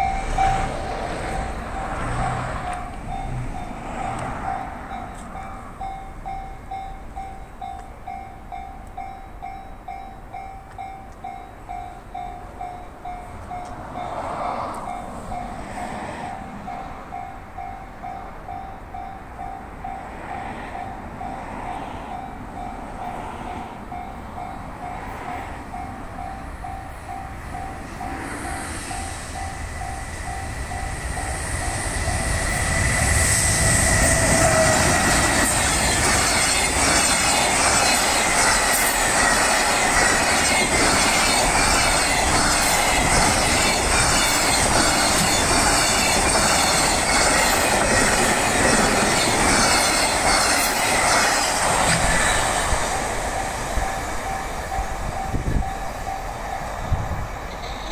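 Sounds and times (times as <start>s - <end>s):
freight train rumble: 0.0s - 57.9s
level-crossing alarm dinging: 0.0s - 57.9s.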